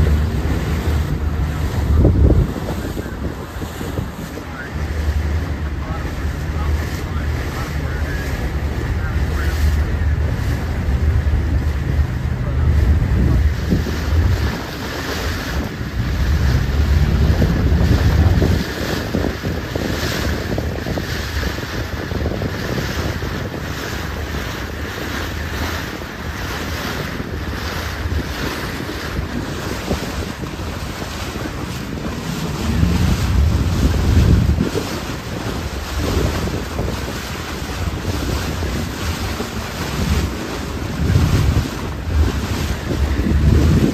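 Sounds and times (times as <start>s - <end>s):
sea and boat noise: 0.0s - 43.9s
wind buffeting microphone: 0.0s - 43.9s.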